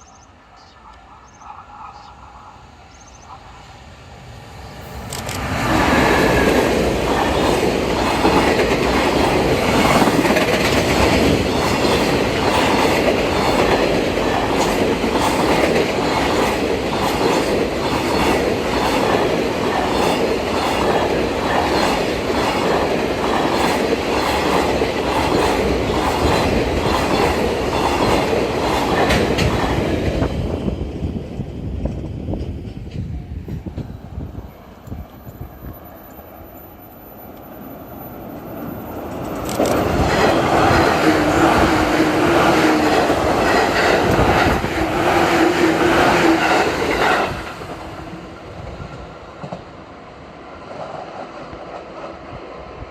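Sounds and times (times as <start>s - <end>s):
freight train passing: 0.0s - 52.9s.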